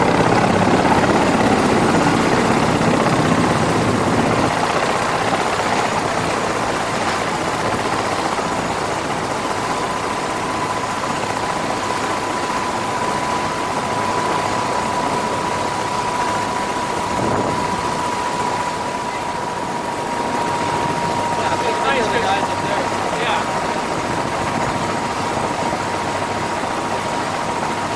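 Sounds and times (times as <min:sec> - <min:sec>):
helicopter engine roar: 0:00.0 - 0:27.9
high turbine whine: 0:00.0 - 0:27.9.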